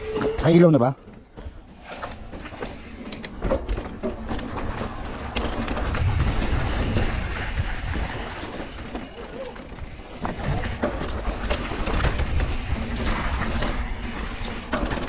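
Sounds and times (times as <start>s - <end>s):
bike tyres rolling on dirt: 0.8s - 15.0s
bike rattling over bumps: 0.9s - 15.0s.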